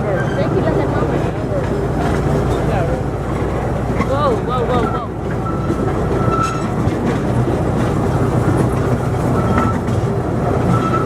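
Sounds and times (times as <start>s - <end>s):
high wheel squeal: 0.0s - 1.2s, 3.3s - 11.0s
train wheels clattering on rail: 0.0s - 11.0s.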